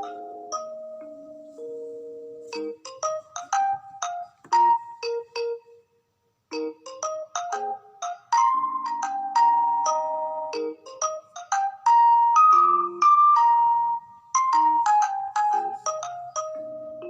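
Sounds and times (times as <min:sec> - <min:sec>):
cheerful plinking tune: 0:00.0 - 0:05.9, 0:06.5 - 0:17.0.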